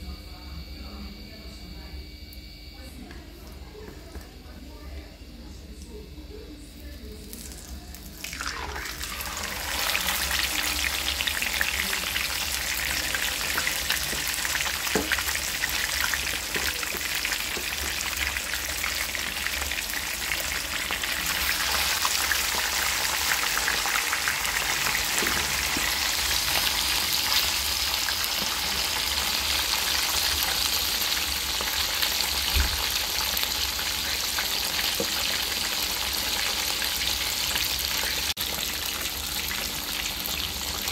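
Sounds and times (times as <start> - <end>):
fish frying in sizzling oil: 7.3 - 40.9.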